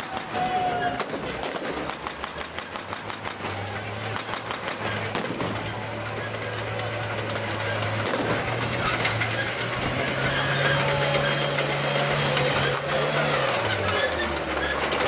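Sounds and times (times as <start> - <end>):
tank engine running: 0.0 - 15.0
tank tracks clattering: 0.0 - 15.0.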